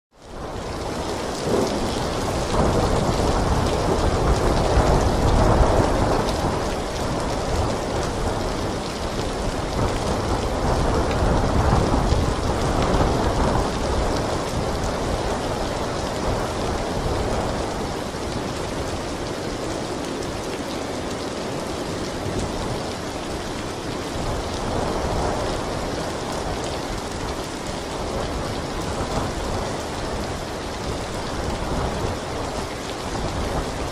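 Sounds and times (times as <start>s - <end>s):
heavy rain: 0.1s - 33.9s
low rolling thunder: 0.4s - 20.8s, 21.6s - 33.9s.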